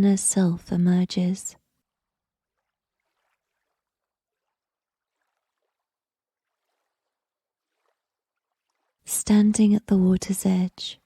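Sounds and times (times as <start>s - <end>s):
faint water lapping: 1.6s - 11.0s.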